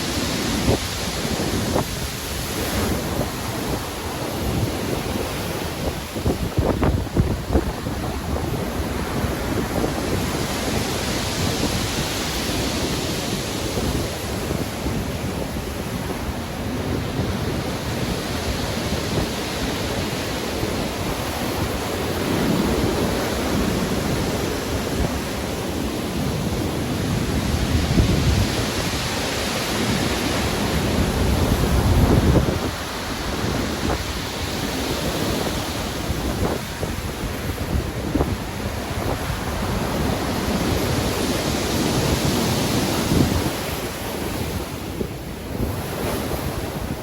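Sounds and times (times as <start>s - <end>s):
heavy surf: 0.0s - 47.0s
wind: 0.0s - 47.0s.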